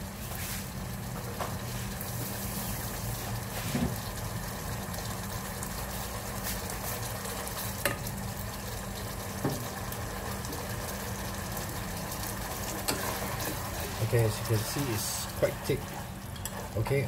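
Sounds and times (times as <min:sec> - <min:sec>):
sauce bubbling in a pot: 0:00.0 - 0:17.0.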